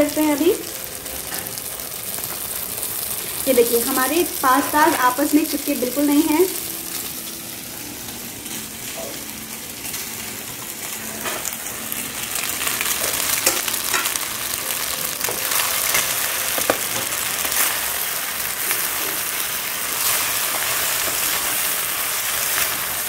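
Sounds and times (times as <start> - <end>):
sauce sizzling in a wok: 0.0 - 23.0.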